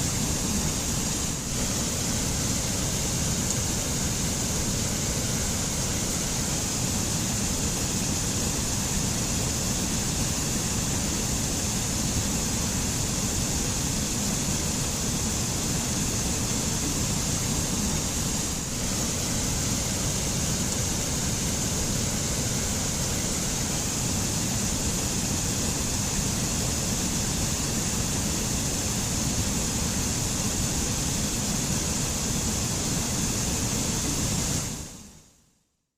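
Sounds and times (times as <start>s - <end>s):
stream rushing over rocks: 0.0s - 33.8s.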